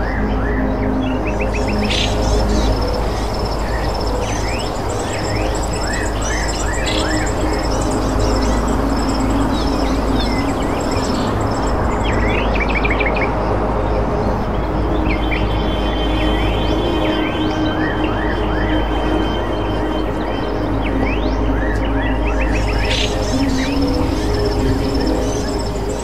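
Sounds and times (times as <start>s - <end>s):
small birds chirping and twittering: 0.0s - 26.0s
steady low rumble: 0.0s - 26.0s.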